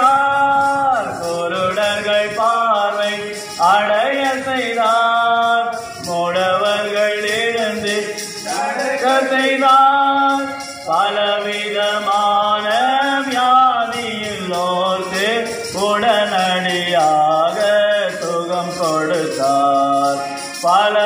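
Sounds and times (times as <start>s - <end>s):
men singing: 0.0s - 21.0s.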